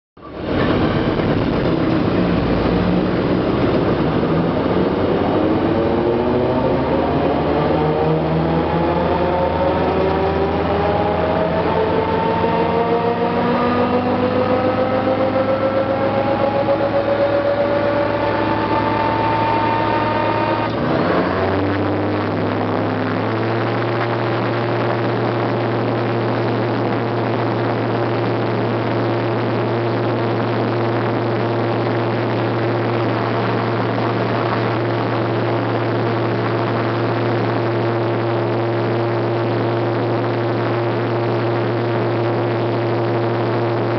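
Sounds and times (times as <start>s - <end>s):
gyrocopter engine running: 0.2s - 43.9s
rising whine: 0.2s - 43.9s.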